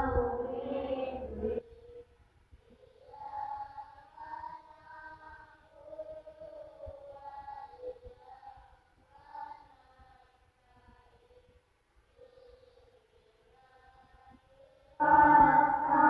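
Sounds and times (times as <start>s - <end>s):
children singing: 0.0s - 2.0s, 2.6s - 11.5s, 12.1s - 16.0s.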